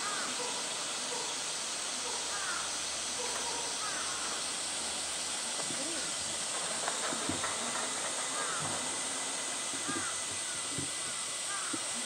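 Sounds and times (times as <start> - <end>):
cicada chorus hiss: 0.0 - 12.0.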